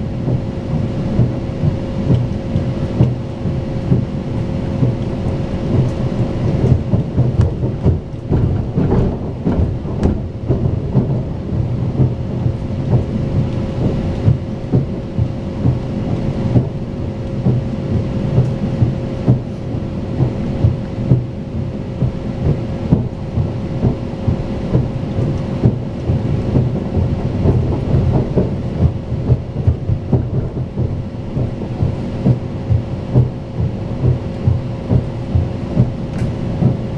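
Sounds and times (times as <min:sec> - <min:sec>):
constant hum: 0:00.0 - 0:36.9
train wheels rumbling on track: 0:00.0 - 0:36.9.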